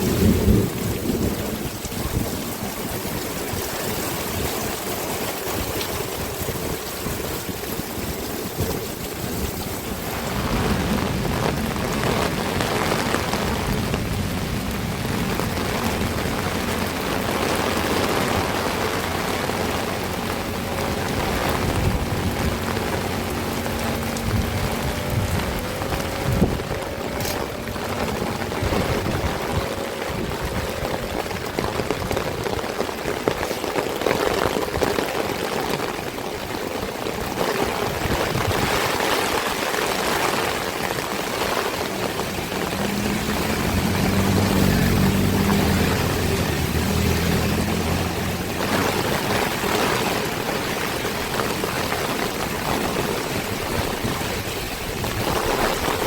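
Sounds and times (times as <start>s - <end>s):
heavy rain pouring: 0.0s - 56.0s
low engine hum: 0.0s - 56.0s.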